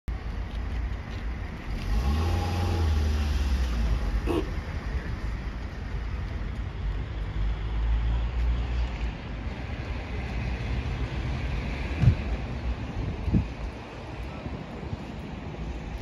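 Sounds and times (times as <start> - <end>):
low traffic rumble: 0.1 - 16.0.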